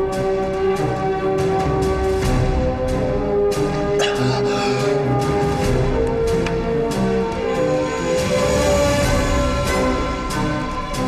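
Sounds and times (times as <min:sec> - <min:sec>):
dramatic orchestral music: 0:00.0 - 0:11.0.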